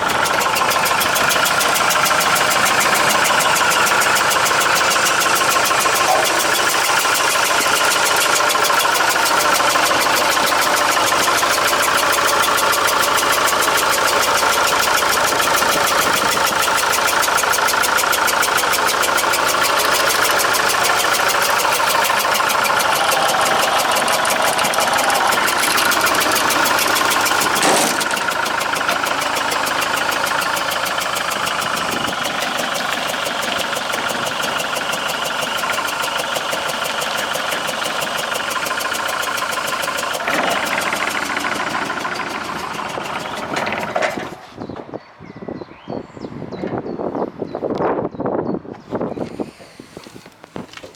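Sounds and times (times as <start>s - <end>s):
diesel engine clattering: 0.0s - 48.1s.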